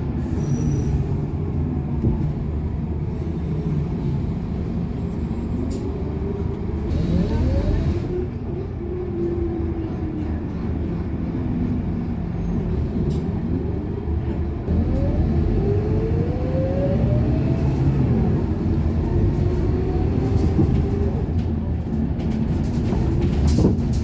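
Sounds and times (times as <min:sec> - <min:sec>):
bus engine drone: 0:00.0 - 0:24.0.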